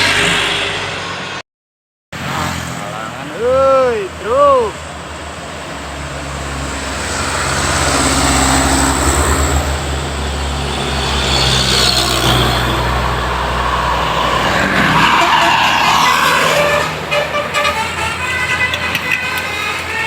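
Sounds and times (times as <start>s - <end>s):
road noise: 0.0s - 1.4s, 2.1s - 20.0s
bus diesel engine passing: 2.2s - 20.0s.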